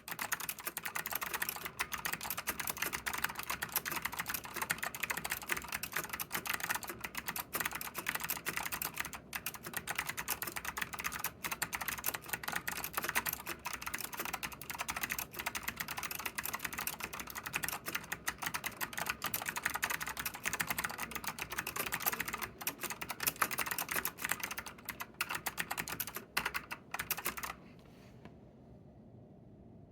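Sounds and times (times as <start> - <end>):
clicky keyboard typing: 0.0 - 27.6.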